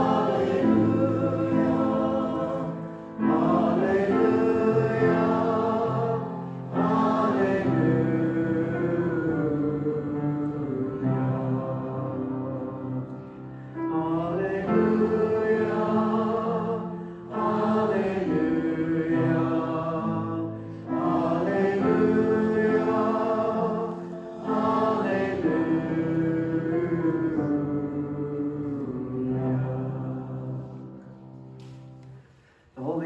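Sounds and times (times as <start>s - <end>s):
group singing a hymn: 0.0s - 31.8s.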